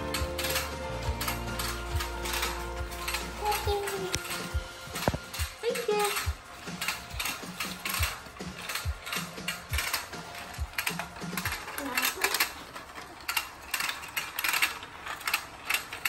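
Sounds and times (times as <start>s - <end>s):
toy gears clicking whir: 0.0s - 16.0s.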